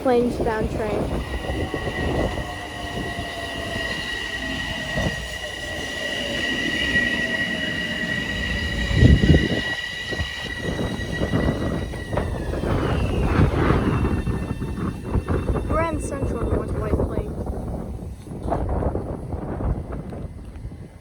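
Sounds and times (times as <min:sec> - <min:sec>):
loud low rumble: 0:00.0 - 0:18.1
train motor whine: 0:00.0 - 0:21.0
high-pitched wheel and brake squeal: 0:00.1 - 0:18.7.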